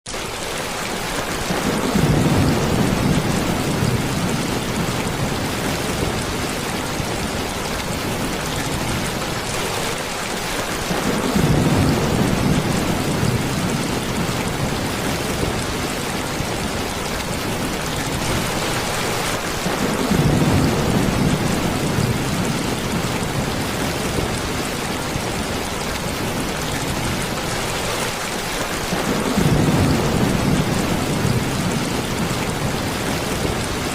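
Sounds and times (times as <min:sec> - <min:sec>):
heavy rain hissing: 0:00.3 - 0:33.9.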